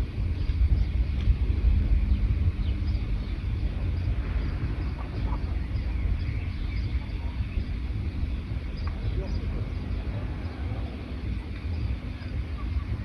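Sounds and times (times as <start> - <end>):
loud low rumble: 0.0 - 13.0
small birds chirping: 0.0 - 13.0.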